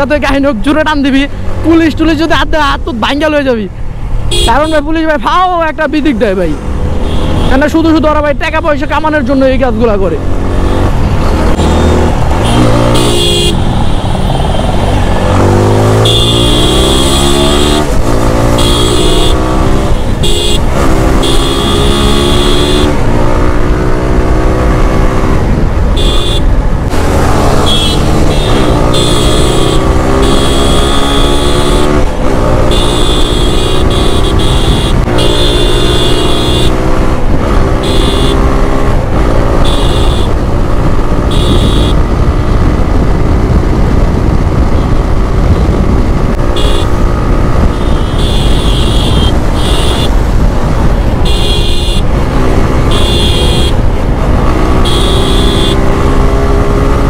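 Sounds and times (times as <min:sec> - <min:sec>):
motorcycle engine shifting gears: 0:10.2 - 0:57.0.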